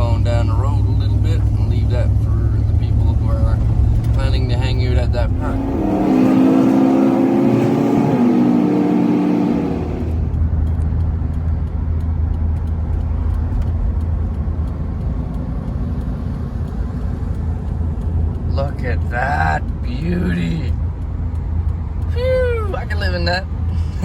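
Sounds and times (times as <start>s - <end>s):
van engine pulling away: 0.0s - 24.0s.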